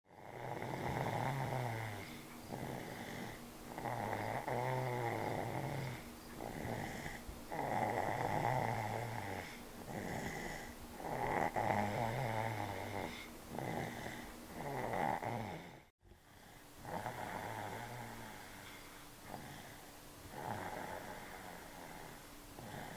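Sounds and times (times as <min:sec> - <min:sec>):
congested rattling snore: 0:00.1 - 0:22.9.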